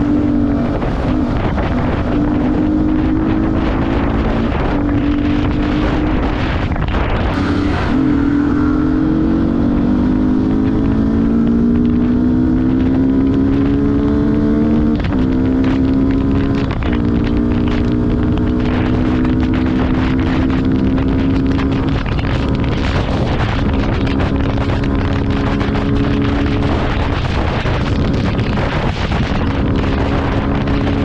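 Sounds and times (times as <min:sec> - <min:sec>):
motorcycle engine accelerating: 0:00.0 - 0:31.0
wind rumbling on microphone: 0:00.0 - 0:31.0.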